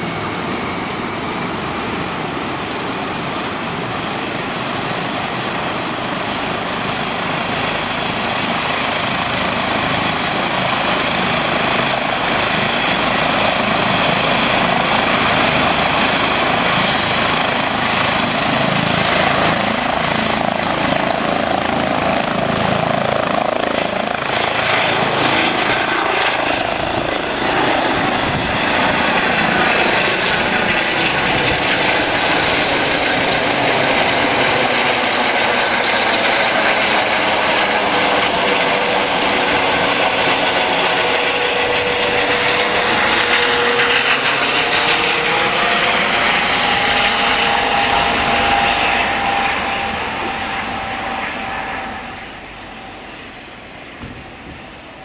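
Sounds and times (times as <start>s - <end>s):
helicopter rotor beating: 0.0s - 55.0s
helicopter turbine whine: 0.0s - 55.0s.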